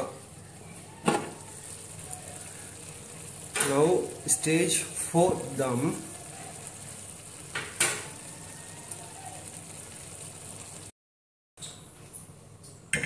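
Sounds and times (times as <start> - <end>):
pot simmering with bubbling hiss: 0.0 - 10.9.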